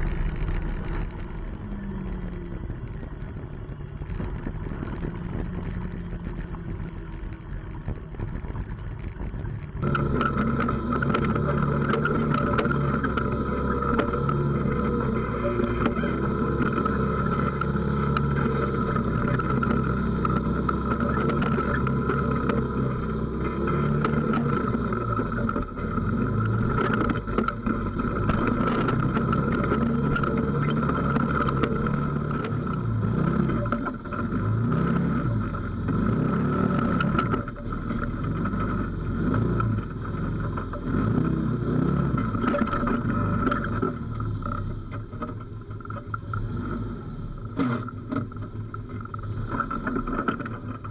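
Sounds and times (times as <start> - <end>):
knocks and clicks over rocks: 0.0 - 46.8, 47.4 - 50.9
off-road vehicle engine revving: 0.0 - 50.9.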